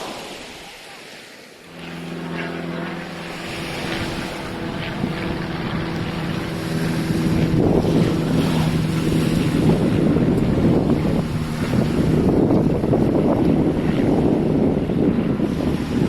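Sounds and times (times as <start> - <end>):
water washing: 0.0 - 16.0
motorboat engine humming: 1.5 - 16.0
wind buffeting microphone: 1.6 - 16.0.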